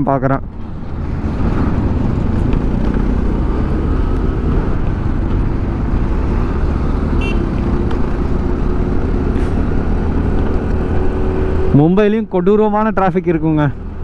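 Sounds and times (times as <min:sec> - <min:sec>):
wind buffeting microphone: 0:00.4 - 0:11.7.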